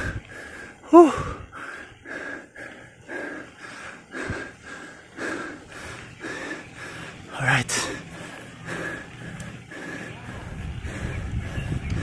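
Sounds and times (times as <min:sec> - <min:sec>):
heavy breathing: 0:00.0 - 0:12.0.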